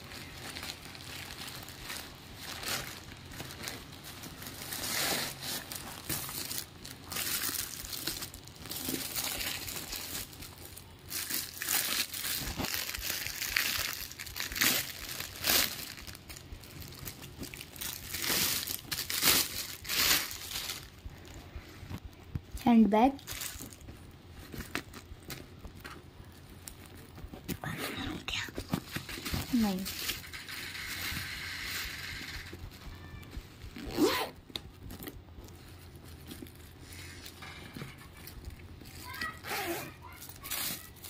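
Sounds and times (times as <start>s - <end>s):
plastic packaging crinkling: 0.0s - 21.4s, 23.2s - 41.0s.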